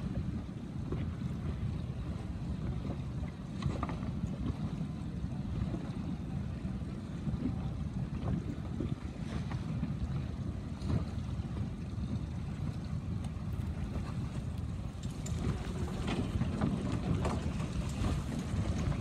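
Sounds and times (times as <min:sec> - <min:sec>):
water lapping: 0:00.0 - 0:19.0
wind buffeting microphone: 0:00.0 - 0:19.0.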